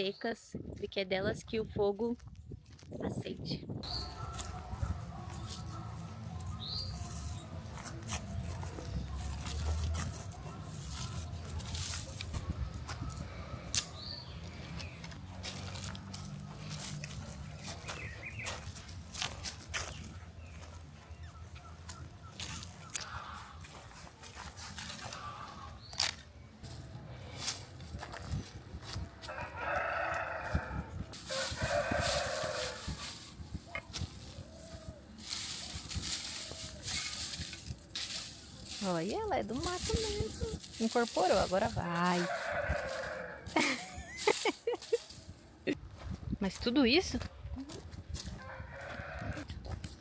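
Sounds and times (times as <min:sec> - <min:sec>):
dry leaves and twigs crackling: 0:03.8 - 0:50.0.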